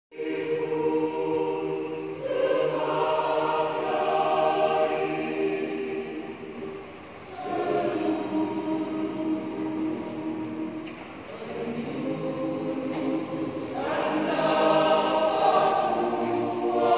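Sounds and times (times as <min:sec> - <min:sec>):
church choir singing: 0:00.1 - 0:16.9.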